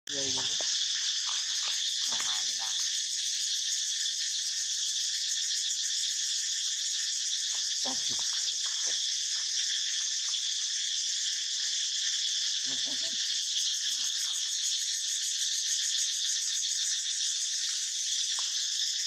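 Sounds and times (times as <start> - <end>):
high-pitched insect chorus: 0.1 - 19.0.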